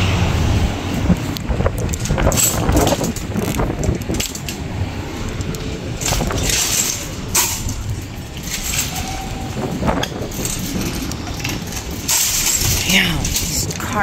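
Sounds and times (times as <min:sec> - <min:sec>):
steady low rumble: 0:00.0 - 0:14.0
metal shopping carts rattling: 0:01.1 - 0:14.0.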